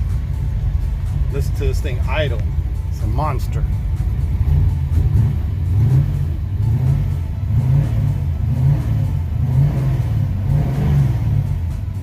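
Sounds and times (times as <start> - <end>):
car engine lopey idle: 0.0 - 12.0.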